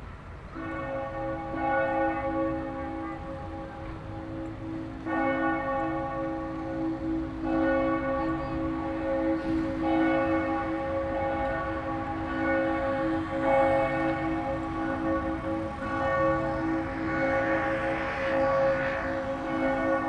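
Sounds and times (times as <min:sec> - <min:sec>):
church bell tolling: 0:00.0 - 0:20.0.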